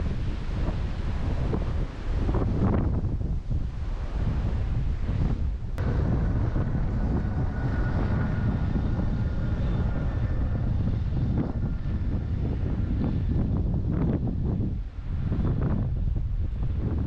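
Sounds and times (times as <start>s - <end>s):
faint steady whine: 0.0s - 17.0s
wind buffeting microphone: 0.0s - 17.0s.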